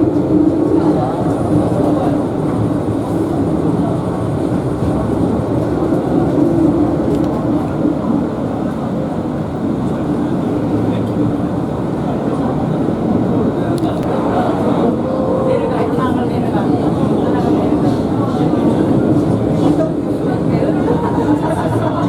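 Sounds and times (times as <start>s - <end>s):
funicular car rumbling on track: 0.0s - 22.0s.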